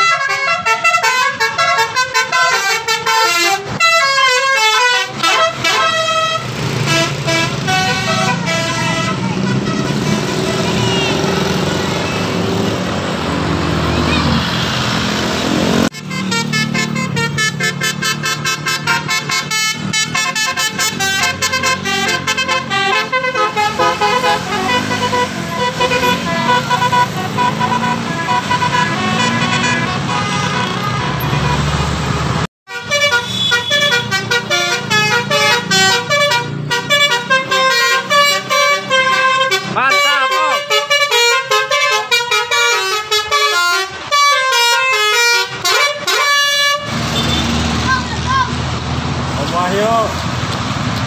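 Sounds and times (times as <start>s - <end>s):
musical bus air horn: 0.0s - 12.4s, 15.8s - 31.8s, 32.7s - 47.6s
bus engine: 0.0s - 51.0s.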